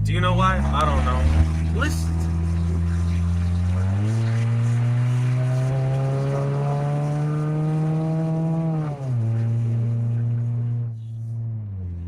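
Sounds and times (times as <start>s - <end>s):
loud car engine accelerating: 0.0s - 12.0s.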